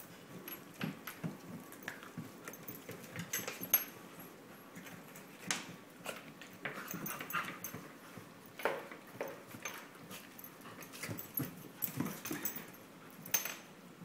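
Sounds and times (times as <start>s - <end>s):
dogs scuffling: 0.0s - 13.5s.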